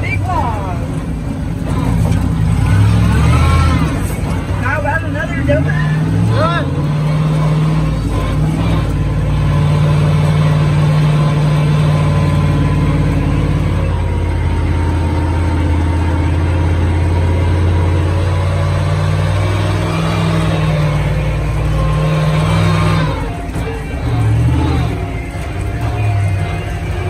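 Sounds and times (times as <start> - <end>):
truck engine droning: 0.0 - 27.0.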